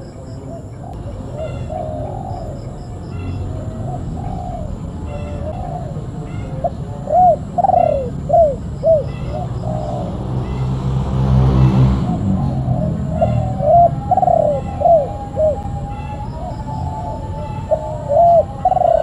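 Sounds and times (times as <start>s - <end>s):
doves cooing: 0.0s - 10.7s, 11.4s - 19.0s.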